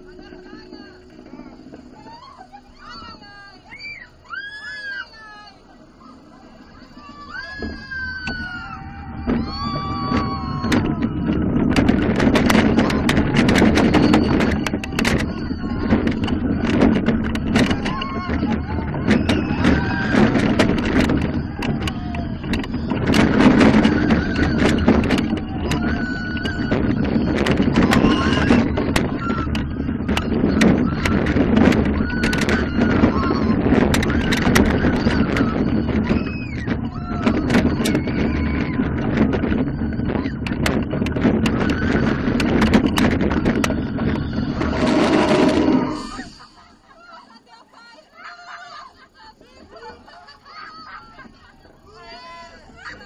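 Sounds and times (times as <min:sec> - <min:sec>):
wind rushing over microphone: 0:00.0 - 0:46.9
riders screaming and laughing: 0:00.0 - 0:53.0
roller coaster rattling on track: 0:00.0 - 0:53.0.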